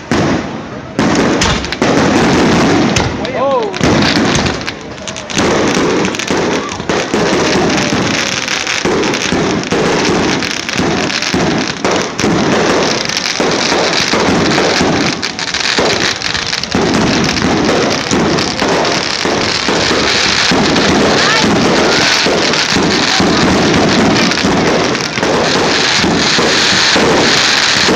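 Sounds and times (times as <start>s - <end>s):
fireworks crackling and banging: 0.0s - 27.9s.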